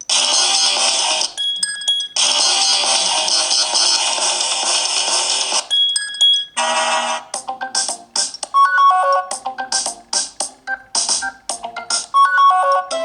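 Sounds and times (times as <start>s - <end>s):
phone ringtone melody: 0.1s - 13.0s.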